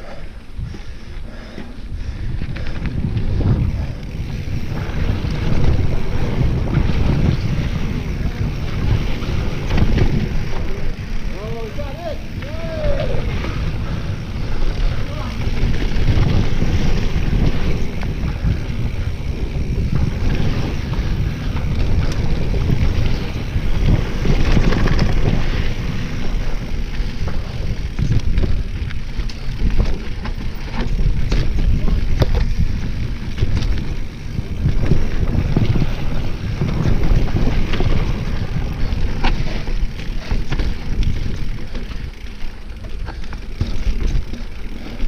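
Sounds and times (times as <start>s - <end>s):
bike clicks and rattles: 0.0s - 45.0s
wind buffeting microphone: 0.0s - 45.0s
tyres rumbling on dirt: 2.0s - 45.0s.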